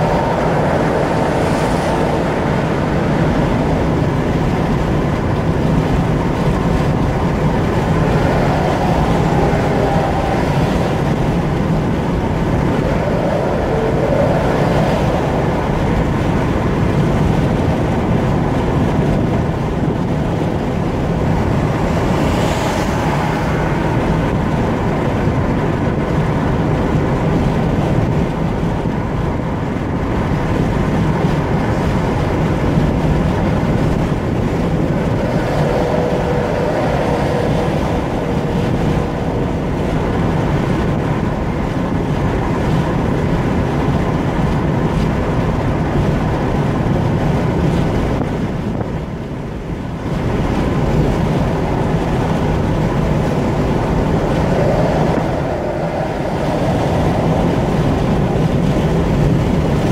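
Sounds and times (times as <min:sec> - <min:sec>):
car road and tyre noise: 0:00.0 - 0:59.9.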